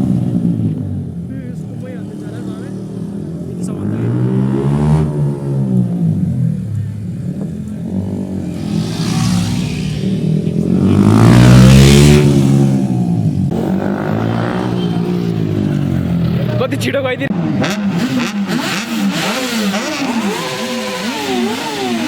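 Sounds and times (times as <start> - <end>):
motorcycles passing at speed: 0.0 - 22.0.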